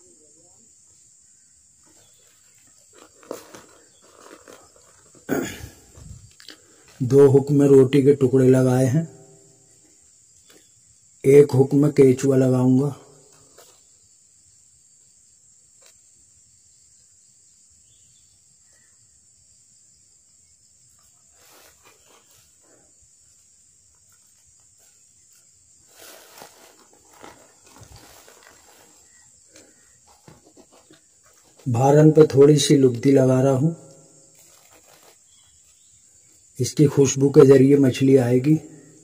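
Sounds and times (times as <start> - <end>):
insect trill: 0.0 - 39.0.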